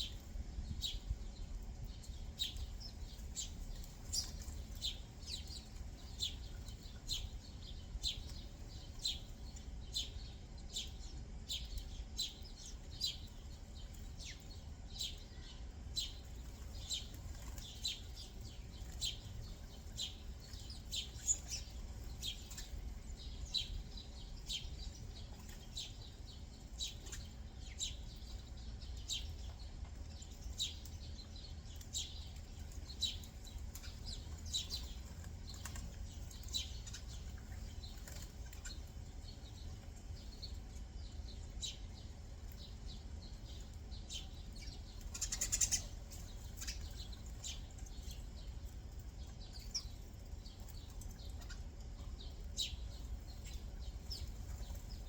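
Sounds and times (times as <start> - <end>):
low background rumble: 0.0 - 55.0
songbirds chirping: 0.0 - 55.0.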